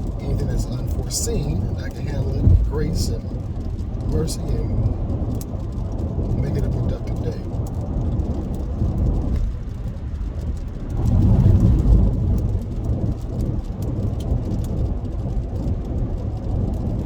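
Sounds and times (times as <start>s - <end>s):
car road and engine rumble: 0.0s - 17.0s
rain ticking on car: 0.0s - 17.0s.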